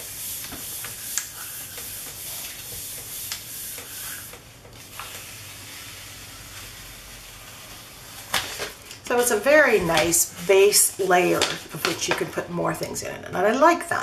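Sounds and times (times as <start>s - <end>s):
hands rubbing paper: 0.0s - 8.4s, 9.2s - 12.2s.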